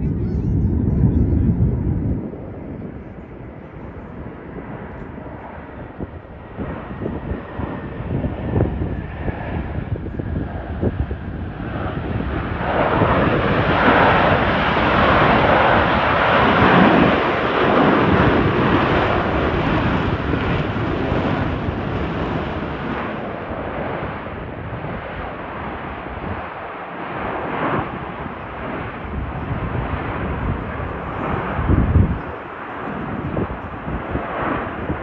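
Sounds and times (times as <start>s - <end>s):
jet engine flyby: 0.0s - 35.0s.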